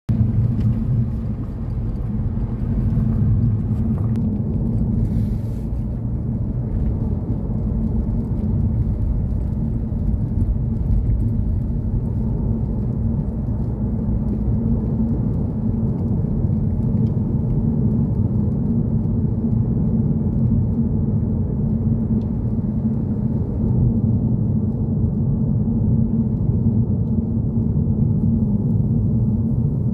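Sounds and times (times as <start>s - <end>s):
car cabin road and engine drone: 0.1s - 29.9s.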